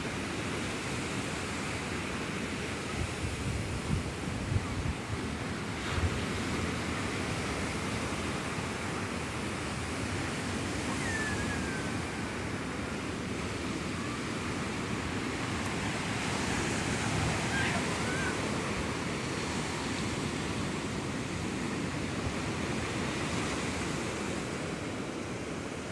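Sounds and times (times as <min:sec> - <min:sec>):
sea surf washing onto shore: 0:00.0 - 0:25.9.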